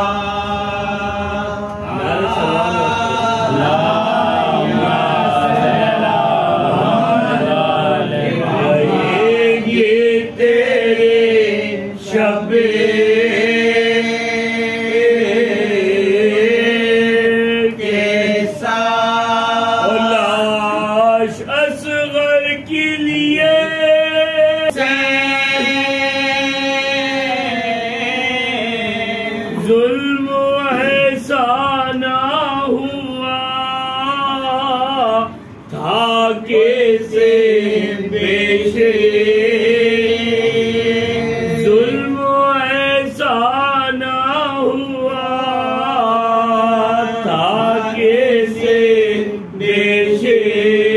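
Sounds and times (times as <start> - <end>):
men chanting a lament: 0.0 - 50.9.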